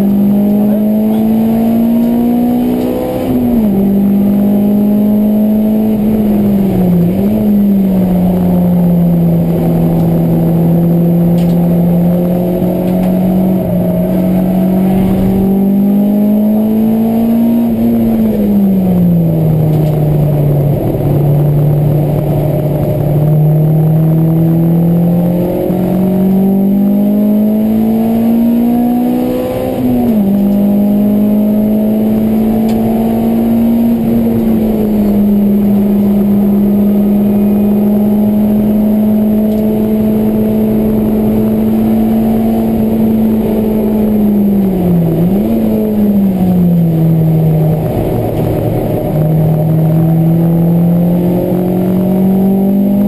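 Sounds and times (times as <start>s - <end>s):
car engine at high revs: 0.0s - 53.0s.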